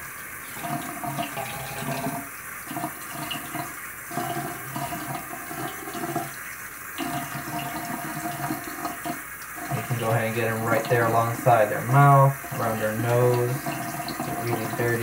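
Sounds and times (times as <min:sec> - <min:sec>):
faucet water splashing: 0:00.0 - 0:15.0.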